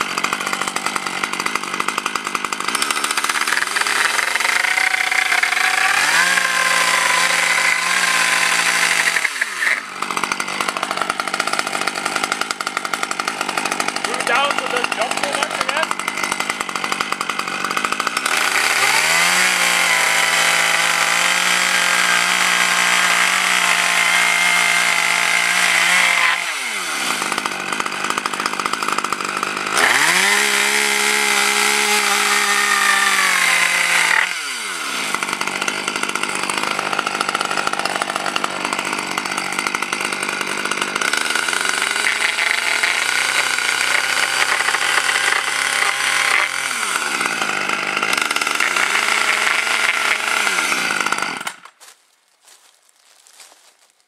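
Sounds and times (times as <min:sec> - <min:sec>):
chainsaw cutting a board: 0:00.0 - 0:52.6.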